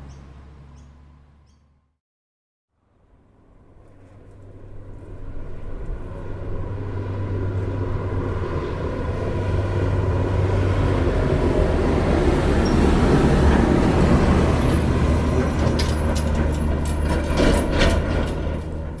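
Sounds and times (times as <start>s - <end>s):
vehicle engine humming: 0.0s - 2.0s, 2.8s - 19.0s.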